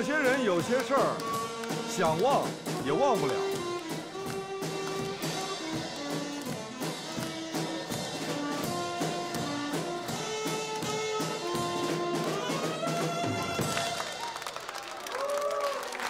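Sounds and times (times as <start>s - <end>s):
upbeat jazz band music: 0.0s - 14.5s.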